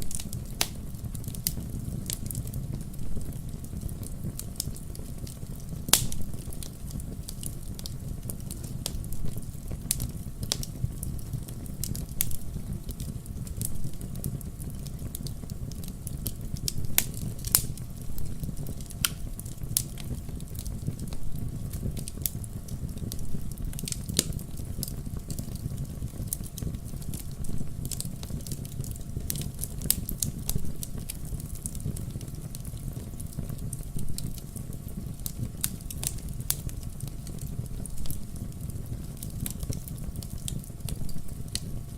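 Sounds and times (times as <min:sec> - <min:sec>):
campfire crackling: 0:00.0 - 0:41.9
low rumble of flames: 0:00.0 - 0:41.9.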